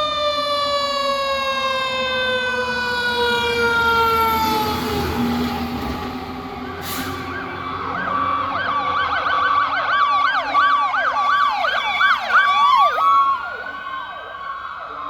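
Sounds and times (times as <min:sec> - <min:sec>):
fast yelp siren: 0:00.0 - 0:05.4, 0:07.2 - 0:15.0
rising wail siren: 0:00.0 - 0:15.0
steady siren tone: 0:00.0 - 0:15.0.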